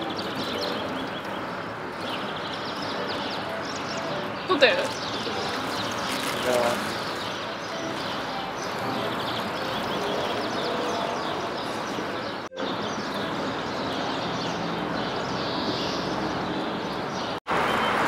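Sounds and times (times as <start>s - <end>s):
city street background noise: 0.0s - 18.0s
small birds chirping: 0.0s - 18.0s.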